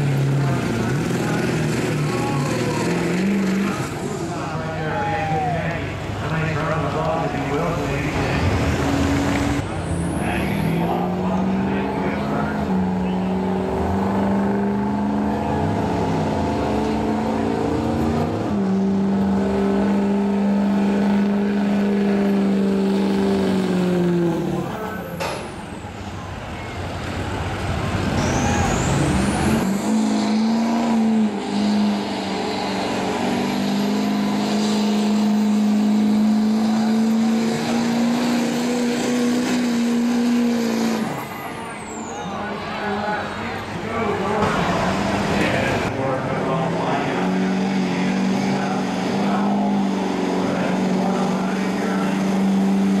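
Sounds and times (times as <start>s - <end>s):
truck engines revving under load: 0.0s - 53.0s.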